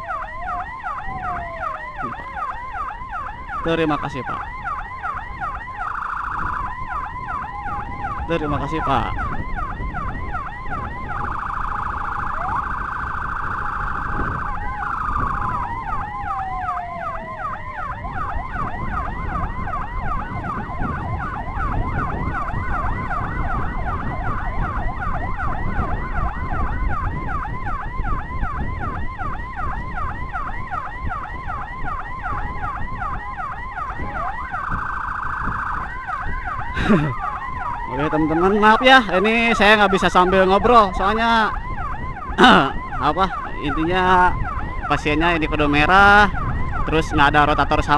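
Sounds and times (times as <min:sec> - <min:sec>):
electronic siren: 0:00.0 - 0:47.9
road and wind noise: 0:00.0 - 0:47.9.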